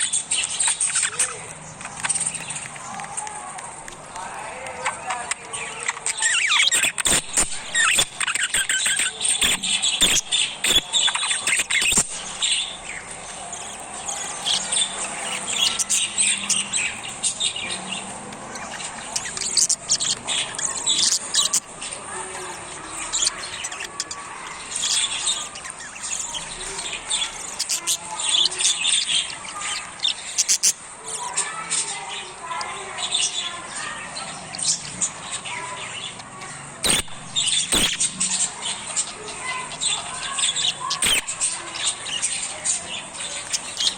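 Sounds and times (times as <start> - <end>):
sharp clicks and scratches: 0.0 - 31.9, 36.1 - 39.1, 39.8 - 43.9
parrots chirping and squawking: 0.0 - 43.9.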